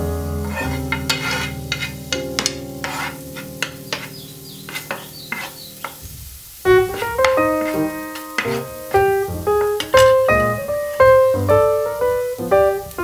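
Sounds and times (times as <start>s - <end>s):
garlic sizzling in oil: 0.0s - 13.0s
piano music: 0.0s - 13.0s
utensil scraping frying pan: 0.2s - 11.4s.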